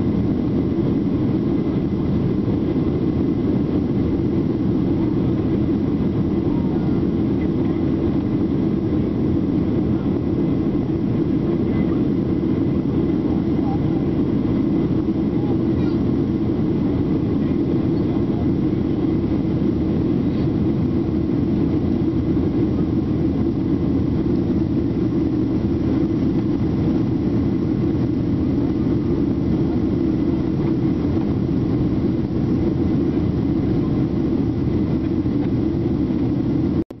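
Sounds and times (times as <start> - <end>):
jet engines rumbling: 0.0 - 37.0.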